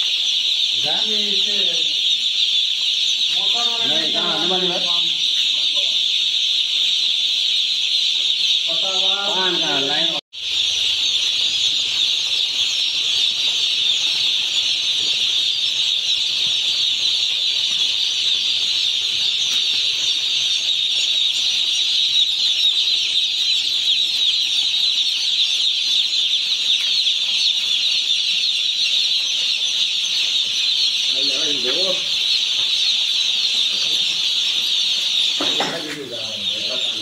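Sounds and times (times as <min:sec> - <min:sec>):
chicks peeping: 0:00.0 - 0:37.0.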